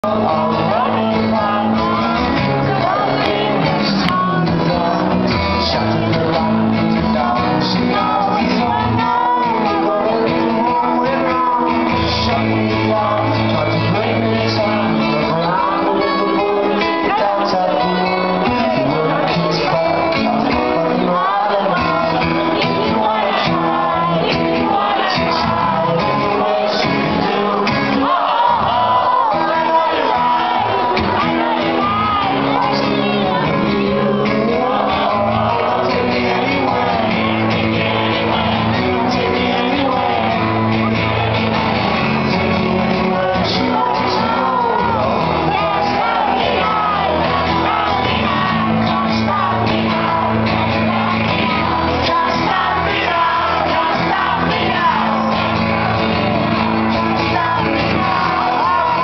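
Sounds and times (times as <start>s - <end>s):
audience shouting and singing along: 0.0s - 59.0s
electric guitar strumming: 0.0s - 59.0s
man singing: 0.0s - 59.0s.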